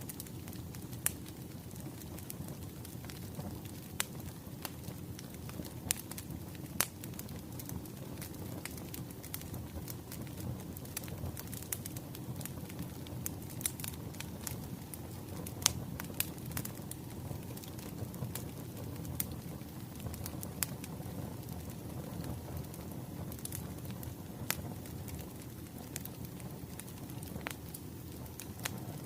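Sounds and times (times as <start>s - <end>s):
low rumble of flames: 0.0s - 29.0s
wood fire crackling: 0.0s - 29.0s.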